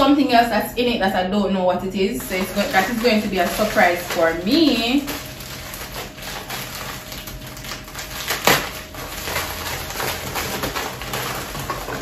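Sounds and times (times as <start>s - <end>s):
plastic packaging crinkling: 2.0s - 12.0s
sharp loud plastic crackle: 2.2s - 12.0s.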